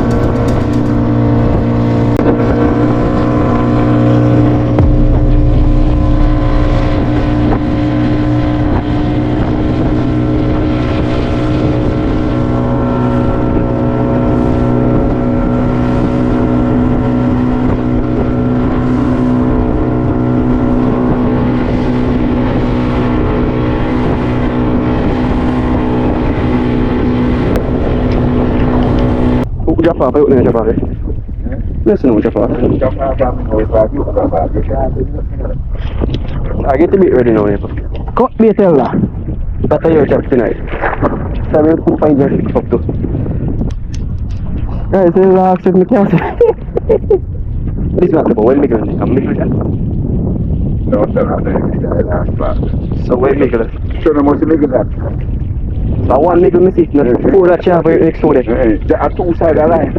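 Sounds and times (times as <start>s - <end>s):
boat motor running: 0.0s - 59.9s.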